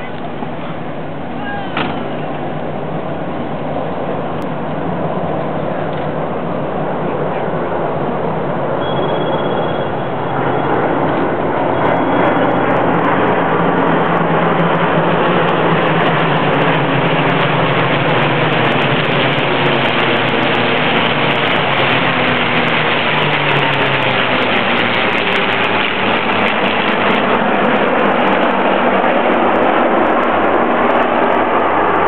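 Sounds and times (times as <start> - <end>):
piston aircraft engines droning: 0.0 - 32.0.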